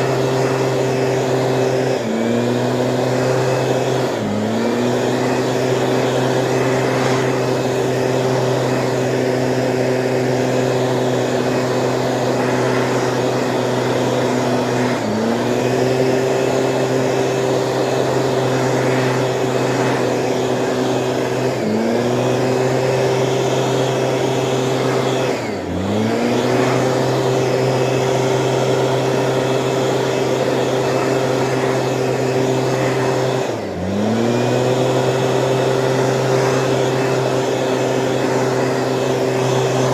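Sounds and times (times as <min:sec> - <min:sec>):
engine-powered weed sprayer running: 0:00.0 - 0:39.9.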